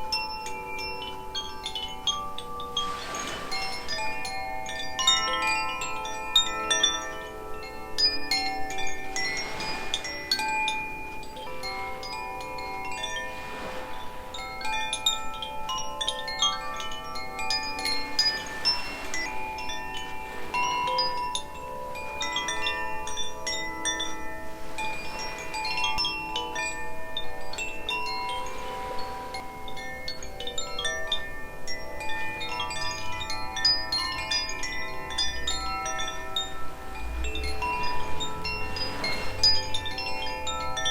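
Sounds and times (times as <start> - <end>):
wind chimes ringing: 0.0 - 40.9.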